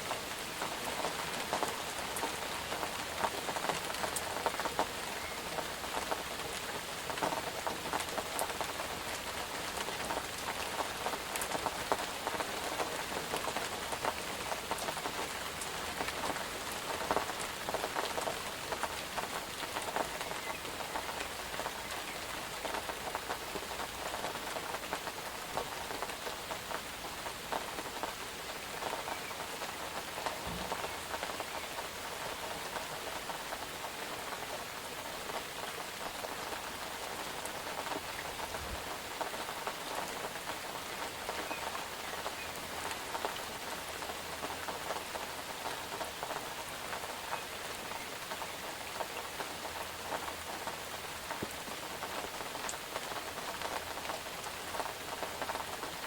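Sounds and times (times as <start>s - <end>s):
rain on a hard surface: 0.0s - 56.0s
raindrops ticking close by: 0.0s - 56.0s.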